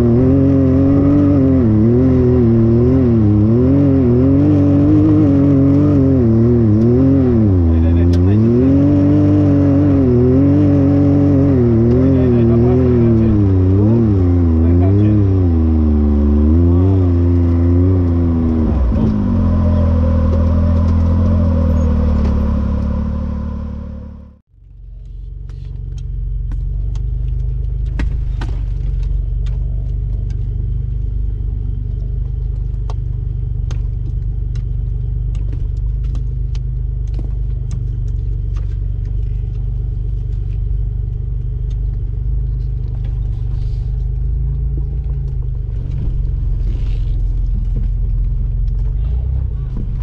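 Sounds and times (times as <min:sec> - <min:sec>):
engine running at low revs: 0:00.0 - 0:50.0.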